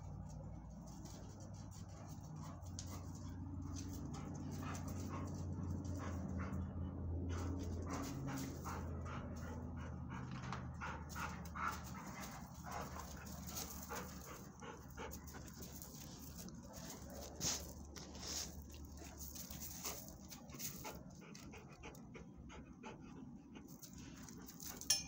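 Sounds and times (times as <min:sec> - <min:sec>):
dogs panting: 0:00.0 - 0:25.0
paws scuffling on gravel: 0:00.3 - 0:06.6, 0:07.4 - 0:09.6, 0:10.2 - 0:21.5, 0:23.7 - 0:24.9.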